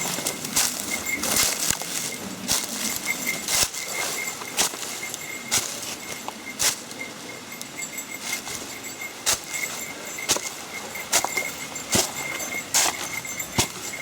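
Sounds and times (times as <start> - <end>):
footsteps crunching through dry leaves: 0.0 - 14.0.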